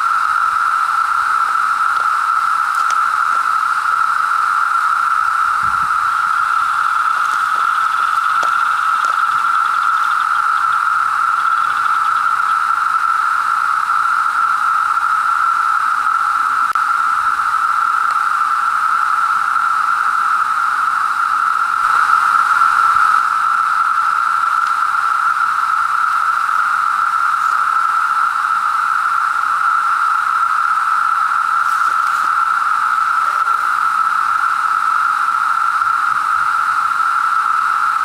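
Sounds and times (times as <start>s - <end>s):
cicadas droning: 0.0s - 38.0s.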